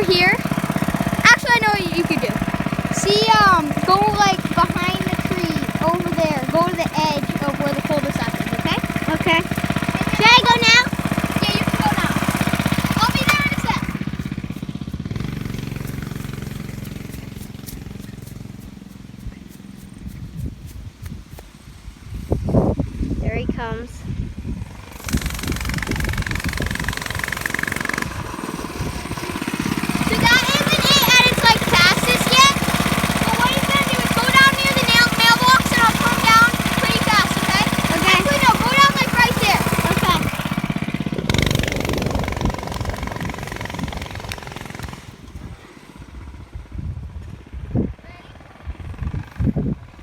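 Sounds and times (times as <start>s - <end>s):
dirt bike engine approaching: 0.0s - 50.0s.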